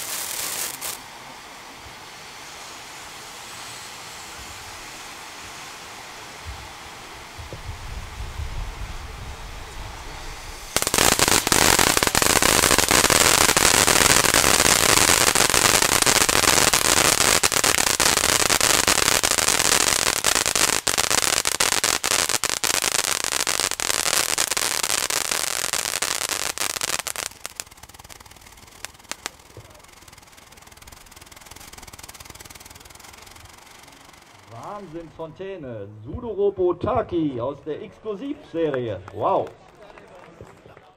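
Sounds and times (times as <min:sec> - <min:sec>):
firework fountain hissing and crackling: 0:00.0 - 0:35.2.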